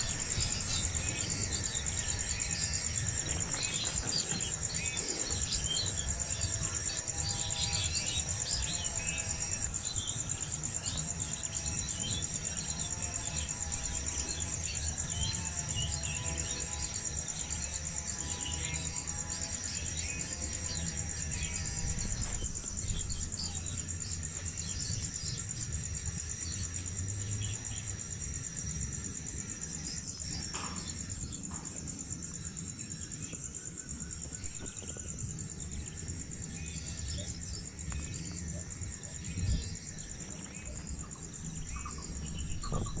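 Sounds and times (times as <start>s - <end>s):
high-pitched insect drone: 0.0s - 43.0s.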